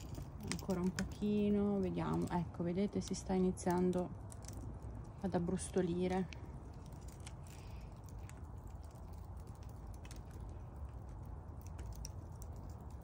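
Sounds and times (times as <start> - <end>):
faint low rumble: 0.0 - 13.0
wood fire crackling: 0.0 - 13.0.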